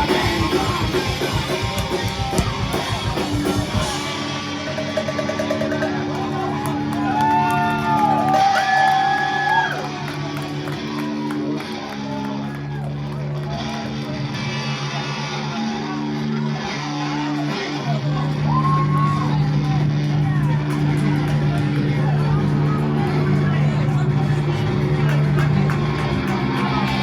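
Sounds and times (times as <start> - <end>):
heavy drums: 0.0 - 27.0
held guitar chords: 0.0 - 27.0
live rock band playing: 0.0 - 27.0
sliding high guitar notes: 0.0 - 27.0.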